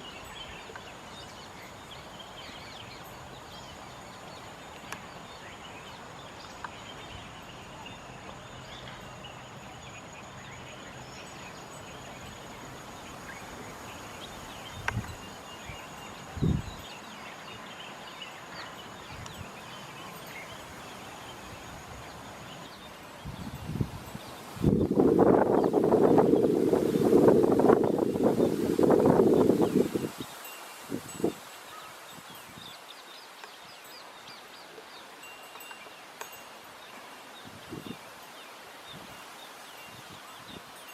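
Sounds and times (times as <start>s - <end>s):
background hiss: 0.0s - 40.9s
high bird or insect chirps: 0.0s - 40.9s.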